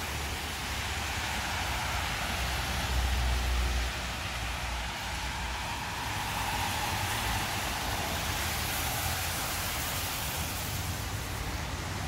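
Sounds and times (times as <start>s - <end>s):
rain hissing: 0.0s - 12.0s
tyres on wet road: 0.0s - 12.0s.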